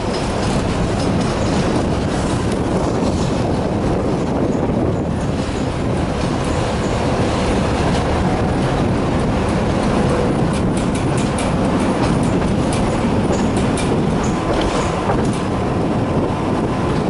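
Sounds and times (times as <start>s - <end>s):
tram rumbling on track: 0.0s - 17.0s
wheels clicking over rails: 0.0s - 17.0s.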